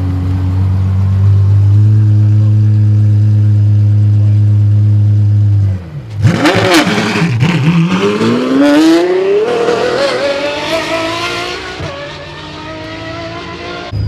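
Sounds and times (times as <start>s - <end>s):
sports car engine accelerating: 0.0s - 14.0s.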